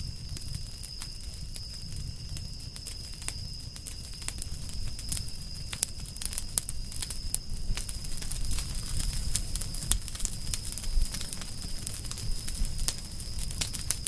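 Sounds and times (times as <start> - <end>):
campfire crackling and popping: 0.0 - 14.0
low rumble of flame: 0.0 - 14.0.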